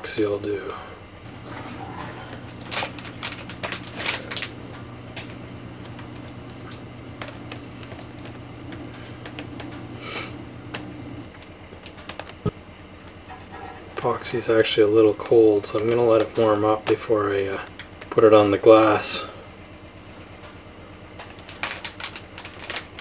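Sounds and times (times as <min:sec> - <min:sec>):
steady low hum: 0:00.0 - 0:23.0
dispenser pumps clicking: 0:00.6 - 0:19.3.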